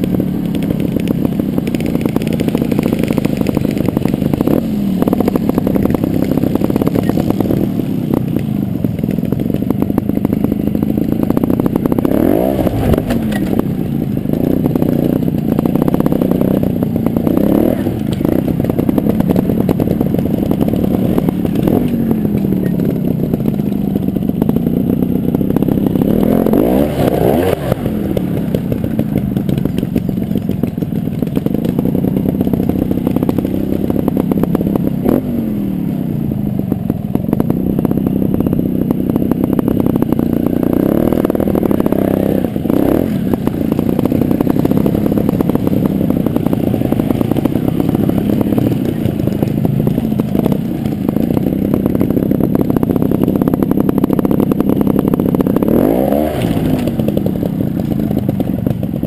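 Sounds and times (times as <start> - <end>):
bike clattering over rough ground: 0.0 - 35.3, 36.7 - 59.0
two-stroke motorcycle engine revving: 0.0 - 59.0.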